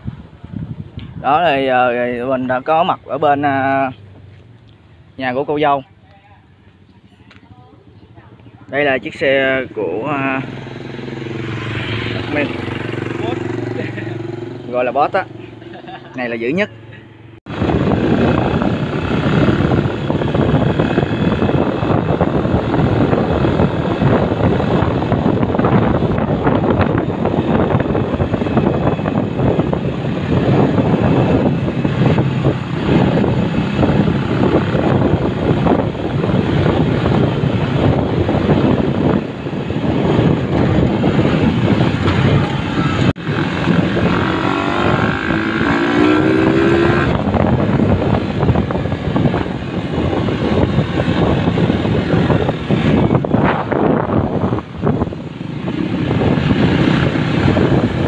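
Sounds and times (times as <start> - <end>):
wind noise on microphone: 0.0 - 4.0, 6.5 - 16.6, 17.2 - 58.0
motorcycle engine running: 7.8 - 58.0.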